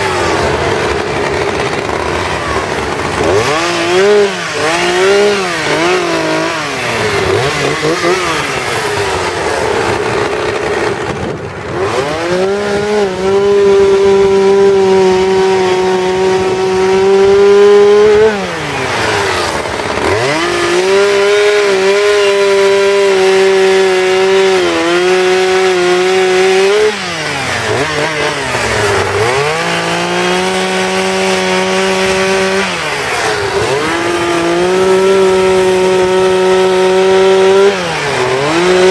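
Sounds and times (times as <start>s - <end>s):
chainsaw carving wood: 0.0s - 38.9s.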